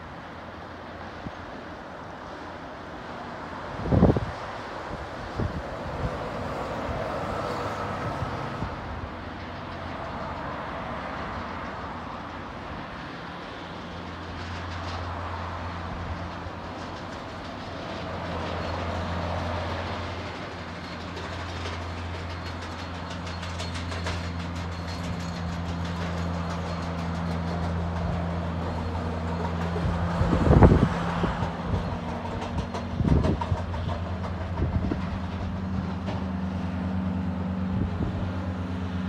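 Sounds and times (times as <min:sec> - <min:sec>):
bus driving by: 0:00.0 - 0:39.0
road traffic passing: 0:00.0 - 0:39.0
low engine hum: 0:03.7 - 0:39.0.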